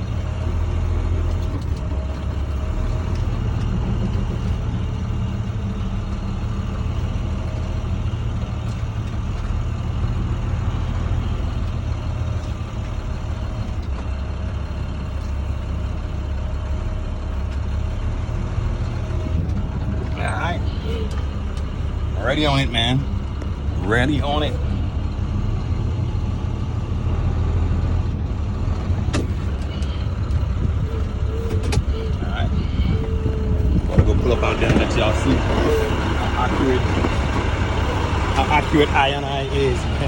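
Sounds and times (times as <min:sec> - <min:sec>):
truck engine running at low revs: 0:00.0 - 0:40.0.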